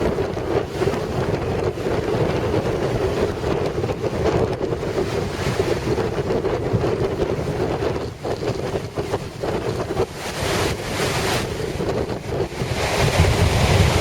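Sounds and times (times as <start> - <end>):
storm waves crashing on shore: 0.0 - 14.0
wind buffeting microphone: 0.0 - 14.0.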